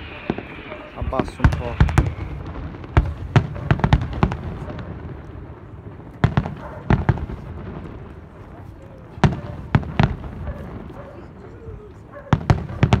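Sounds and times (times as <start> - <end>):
fireworks bursting with sharp bangs: 0.0 - 13.0.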